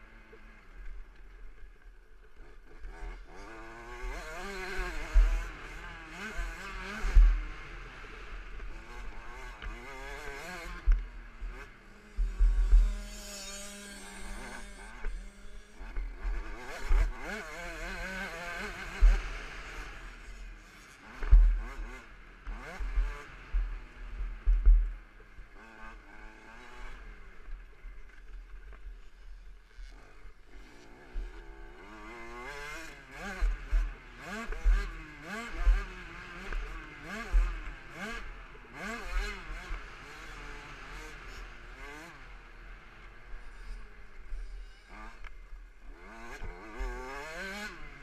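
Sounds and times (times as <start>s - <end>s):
two-stroke engine revving: 2.3s - 27.6s, 29.7s - 48.0s.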